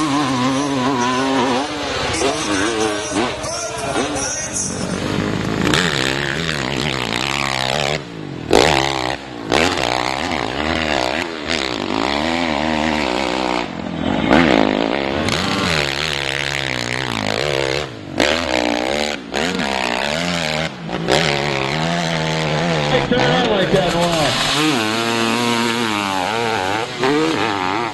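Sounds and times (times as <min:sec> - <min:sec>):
dirt bike engines revving: 0:00.0 - 0:27.9.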